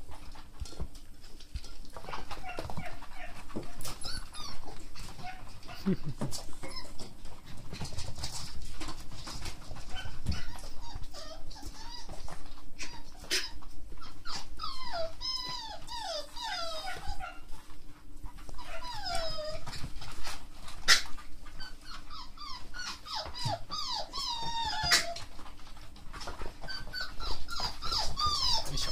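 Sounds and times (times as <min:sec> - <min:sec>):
puppies whining and yelping: 0:00.0 - 0:28.9.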